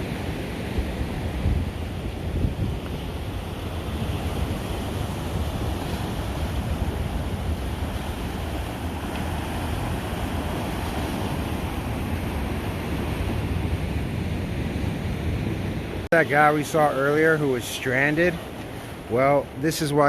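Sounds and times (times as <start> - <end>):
wind rumbling on microphone: 0.0 - 19.5
ocean surf on rocky shore: 0.0 - 20.0.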